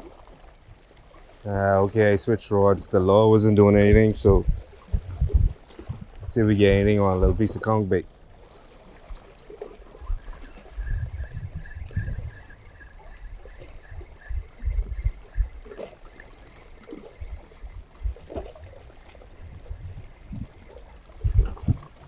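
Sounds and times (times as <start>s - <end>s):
sea water washing against rocks: 0.0s - 22.0s.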